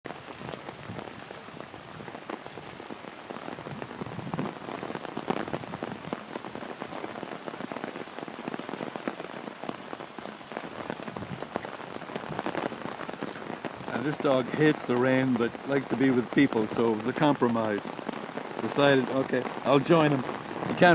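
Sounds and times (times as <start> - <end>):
raindrops pattering close by: 0.1 - 20.9
steady rain falling: 0.1 - 20.9.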